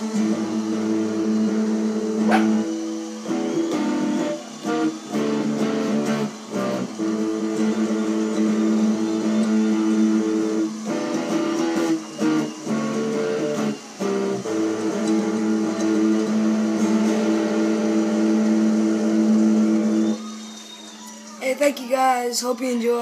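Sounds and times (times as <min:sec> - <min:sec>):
electric guitar playing blues: 0:00.0 - 0:20.1.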